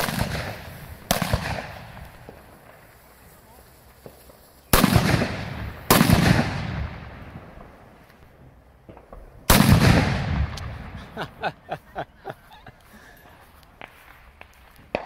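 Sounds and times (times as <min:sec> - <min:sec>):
firework bangs echoing: 0:00.0 - 0:03.3, 0:03.9 - 0:11.8, 0:13.8 - 0:15.0.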